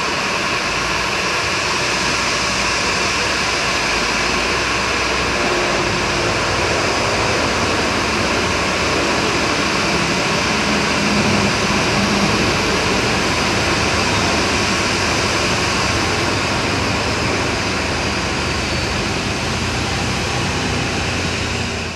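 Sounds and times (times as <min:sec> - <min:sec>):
jet engines idling: 0:00.0 - 0:21.9.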